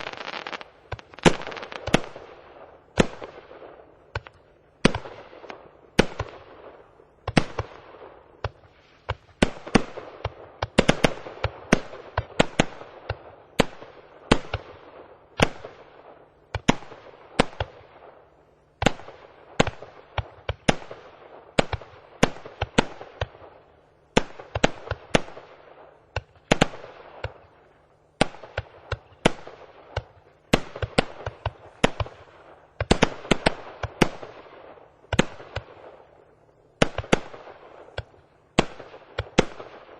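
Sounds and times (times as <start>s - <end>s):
fireworks bangs with echo: 0.0s - 39.9s.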